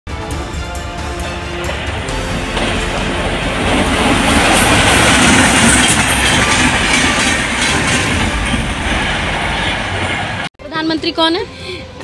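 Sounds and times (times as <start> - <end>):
train wheels running on rails: 0.2 - 11.0.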